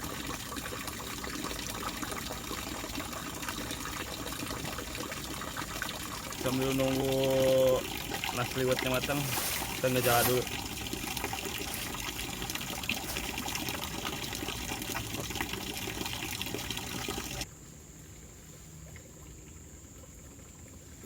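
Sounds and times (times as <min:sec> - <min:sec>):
river water trickling and splashing: 0:00.0 - 0:17.5.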